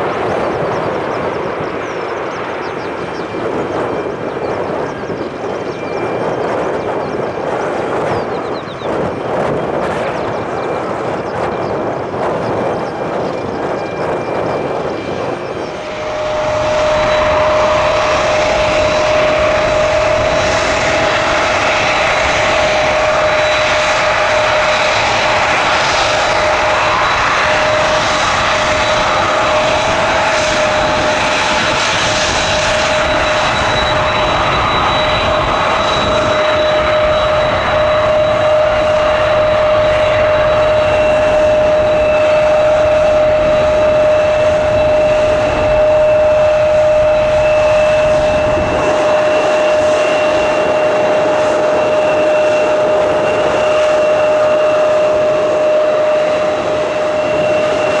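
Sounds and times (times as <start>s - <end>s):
airliner engines running: 0.0s - 58.0s
engine whine: 0.0s - 58.0s.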